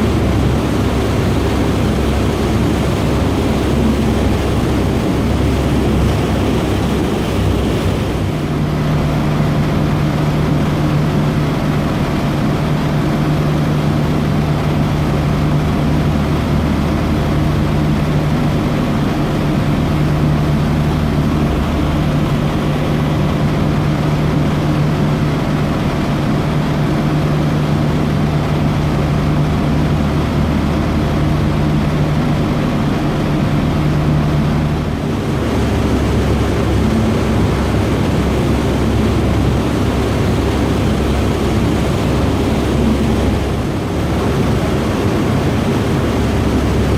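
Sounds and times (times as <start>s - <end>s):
ferry engines droning: 0.0s - 46.9s
rush of water and air: 0.0s - 46.9s
steady hum: 0.0s - 46.9s.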